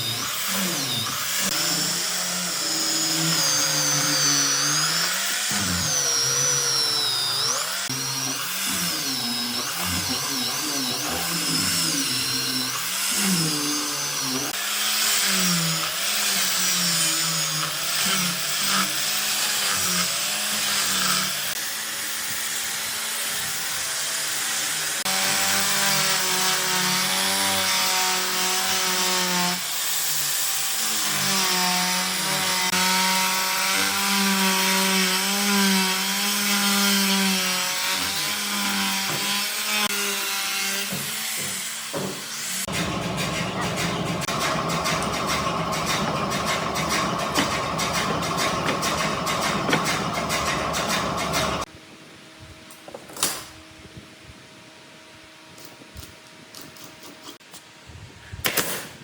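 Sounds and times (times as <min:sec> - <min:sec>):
power tool cutting wood: 0:00.0 - 0:51.7.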